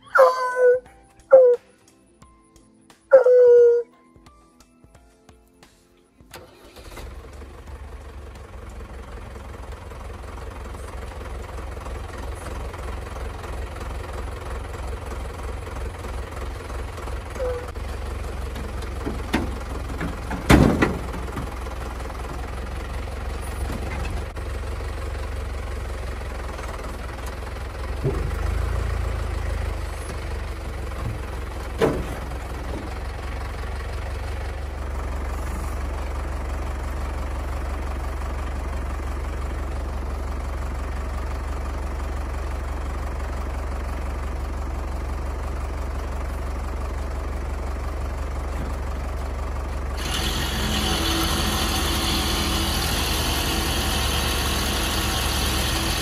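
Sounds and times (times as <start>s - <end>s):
tractor engine running: 6.2s - 56.0s.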